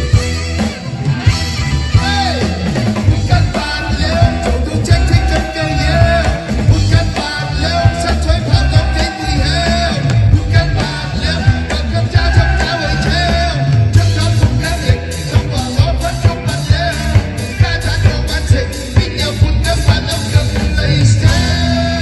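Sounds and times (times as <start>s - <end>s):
band playing upbeat rock song: 0.0s - 22.0s.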